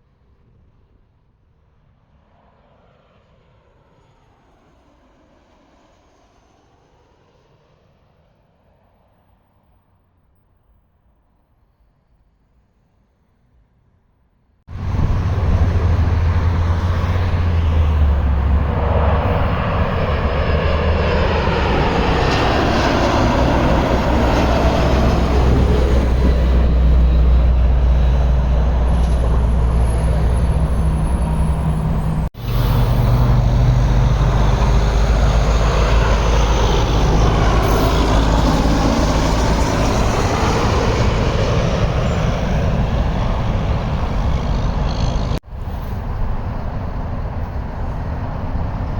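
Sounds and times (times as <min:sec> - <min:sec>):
jet airliner passing overhead: 0:01.8 - 0:09.5, 0:14.7 - 0:48.9.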